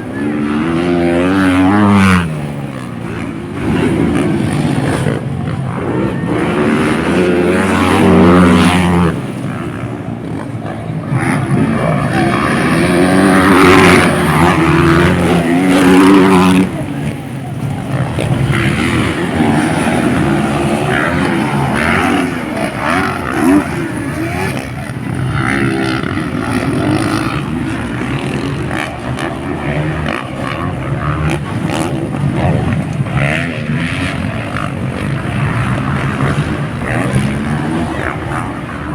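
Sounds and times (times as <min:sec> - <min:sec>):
dirt bike engines revving: 0:00.0 - 0:38.9
voices: 0:00.0 - 0:38.9.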